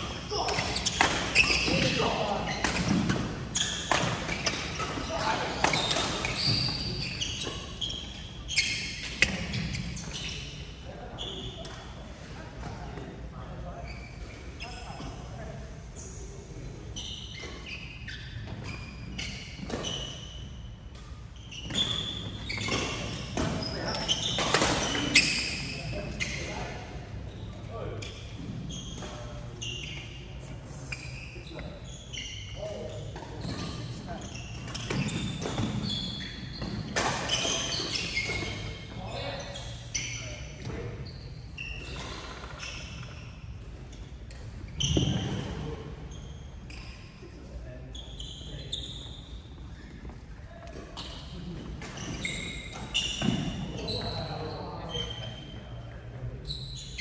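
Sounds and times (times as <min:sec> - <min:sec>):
shoes squeaking: 0:00.0 - 0:57.0.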